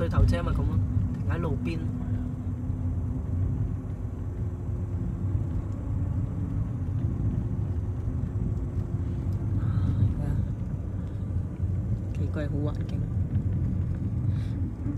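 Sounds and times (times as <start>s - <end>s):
car engine and tyres rumbling: 0.0s - 14.9s
faint steady hum: 0.0s - 14.9s.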